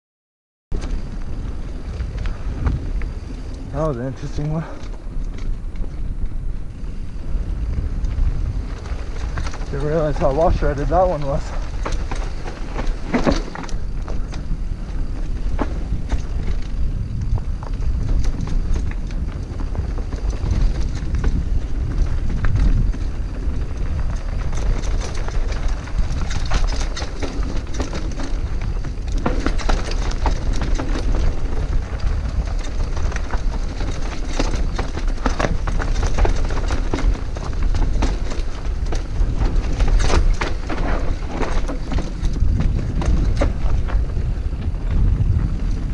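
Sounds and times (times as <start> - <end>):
bike rattling over bumps: 0.7 - 45.9
bike tyres on dirt: 0.7 - 45.9
wind rumble on microphone: 0.7 - 45.9.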